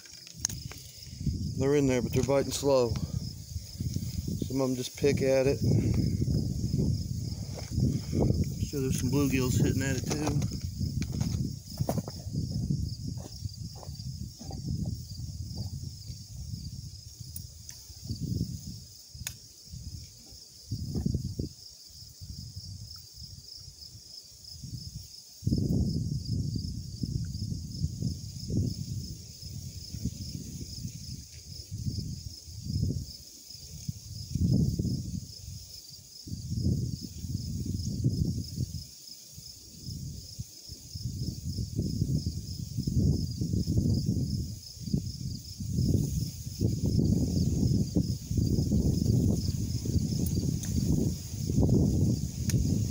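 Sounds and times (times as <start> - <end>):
wind buffeting microphone: 0.0 - 21.6, 24.5 - 38.9, 39.7 - 52.9
insect trill: 0.0 - 52.9.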